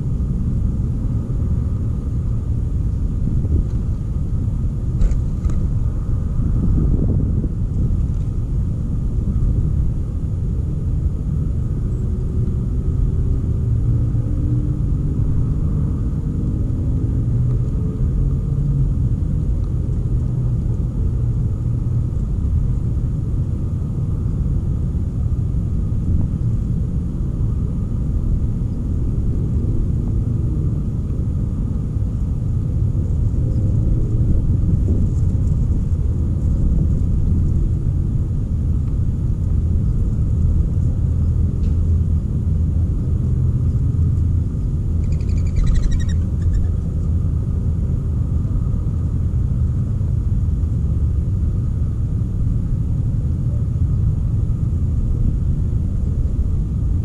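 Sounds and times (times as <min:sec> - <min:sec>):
faint wavering engine drone: 0:00.0 - 0:57.0
low outdoor rumble: 0:00.0 - 0:57.0.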